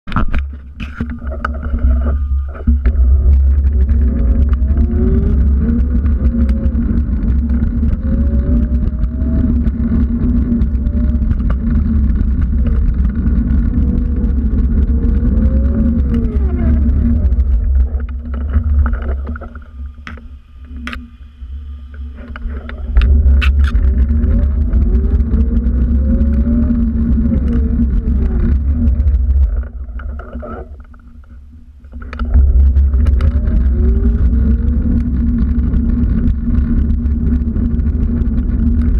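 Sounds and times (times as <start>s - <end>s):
motor rumbling and whining: 0.0s - 38.9s.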